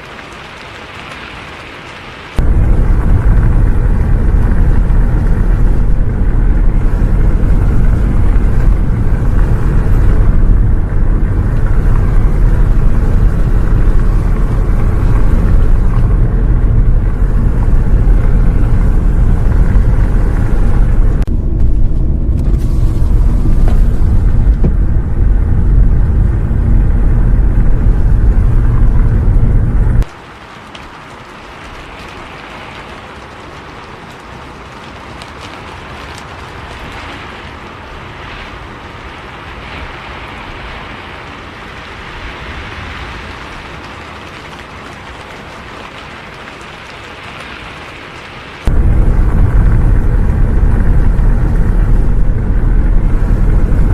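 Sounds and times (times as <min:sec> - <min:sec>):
bus engine and road rumble: 0:00.0 - 0:31.2, 0:31.8 - 0:53.9.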